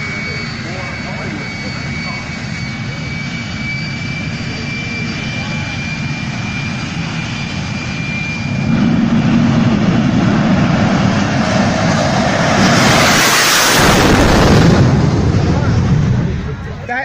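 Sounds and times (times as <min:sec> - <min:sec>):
jet engine at full thrust: 0:00.0 - 0:17.0.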